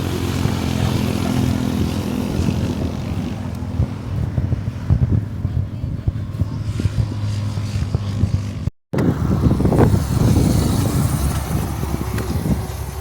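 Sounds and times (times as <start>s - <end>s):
vehicle running with rough rumble: 0.0s - 13.0s.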